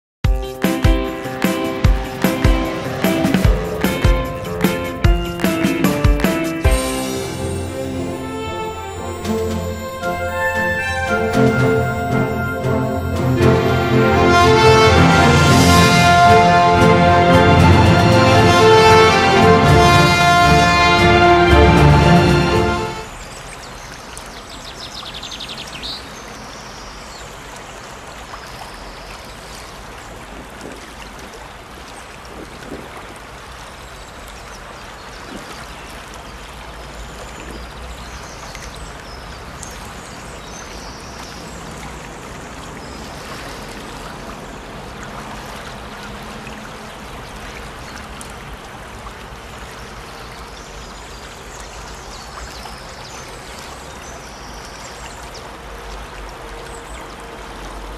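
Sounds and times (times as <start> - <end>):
brook splashing and trickling: 0.3 - 57.9.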